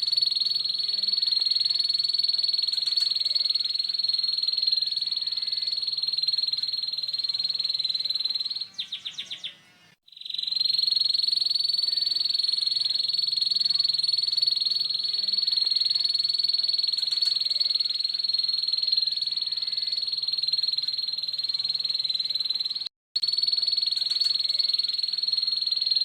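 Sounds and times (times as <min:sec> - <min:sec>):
canary singing buzzing trill: 0:00.0 - 0:26.0.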